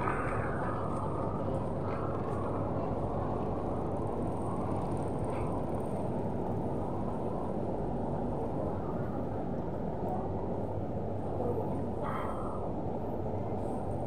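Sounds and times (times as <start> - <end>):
low rumble of street noise: 0.0 - 14.0.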